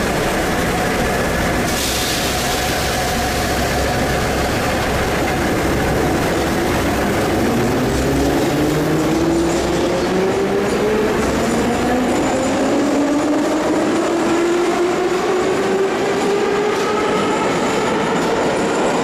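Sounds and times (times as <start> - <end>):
metro train motor whine: 0.0 - 19.0
wheels rumbling on rails: 0.0 - 19.0.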